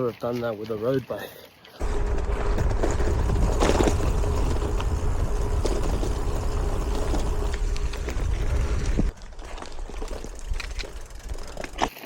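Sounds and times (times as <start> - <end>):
wind rumble on microphone: 1.8 - 11.7
faint hum: 1.8 - 11.8
bike tyre noise: 1.8 - 12.0.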